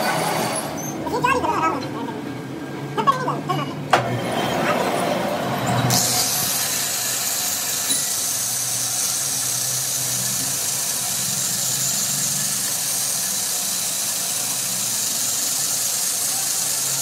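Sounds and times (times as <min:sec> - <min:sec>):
metal lathe running: 0:00.0 - 0:01.6, 0:03.9 - 0:17.0.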